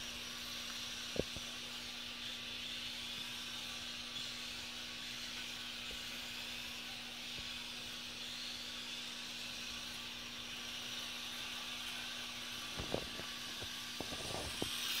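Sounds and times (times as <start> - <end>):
small electric motor whine: 0.0 - 15.0
steady low hum: 0.0 - 15.0.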